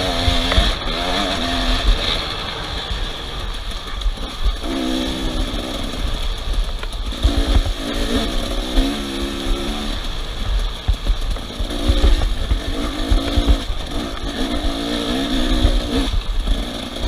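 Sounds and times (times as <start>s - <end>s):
heavy low rumble: 0.0s - 17.0s
off-road vehicle engines revving: 0.0s - 17.0s.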